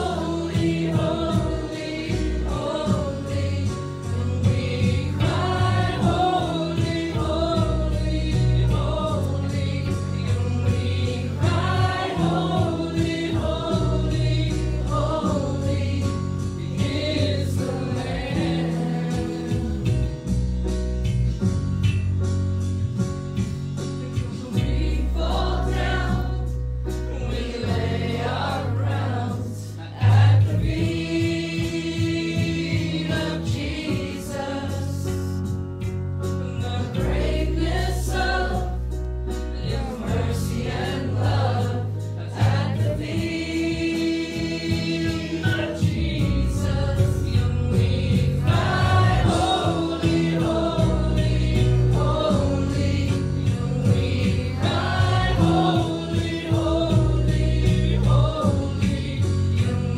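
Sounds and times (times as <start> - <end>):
deep bass notes: 0.0 - 59.9
keyboard: 0.0 - 59.9.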